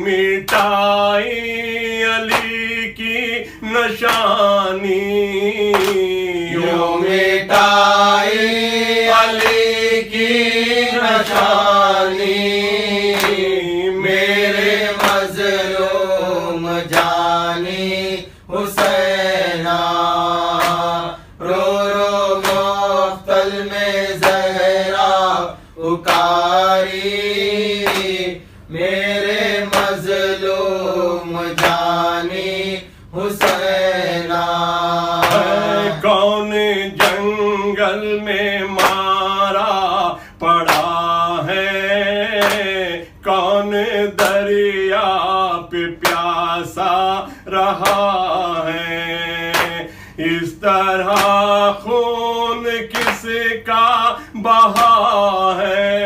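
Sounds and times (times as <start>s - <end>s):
person chanting mournful lament: 0.0s - 56.0s.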